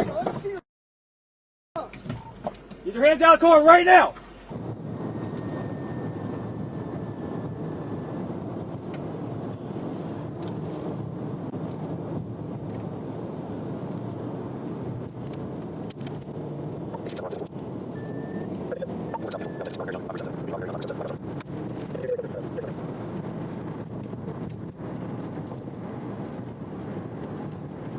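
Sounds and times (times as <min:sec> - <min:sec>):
vehicle driving at speed: 0:04.1 - 0:27.9.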